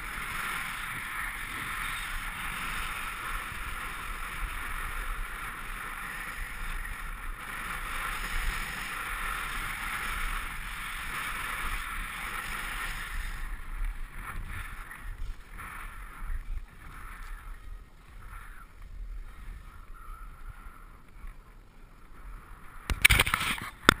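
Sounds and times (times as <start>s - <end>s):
skis hissing over snow: 0.0s - 20.3s
wind on microphone: 0.0s - 24.0s.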